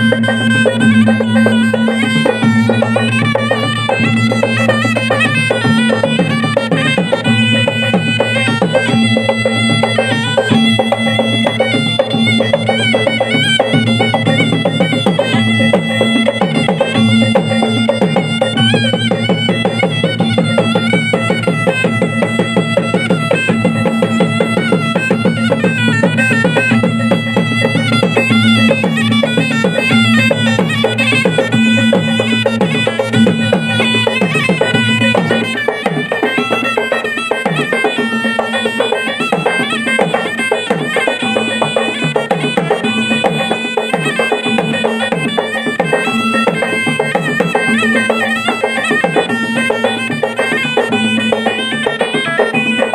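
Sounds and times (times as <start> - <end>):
shrill reed melody: 0.0 - 52.9.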